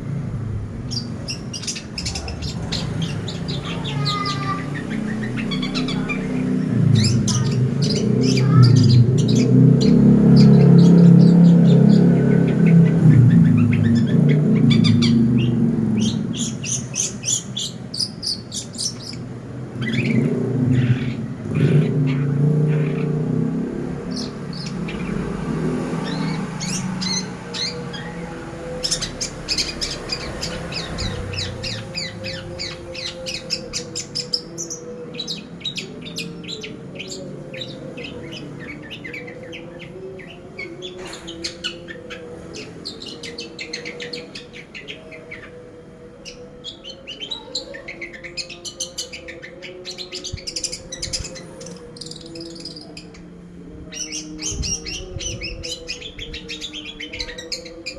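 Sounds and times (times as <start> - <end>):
bird chattering song: 0.9 - 45.6, 46.2 - 57.9.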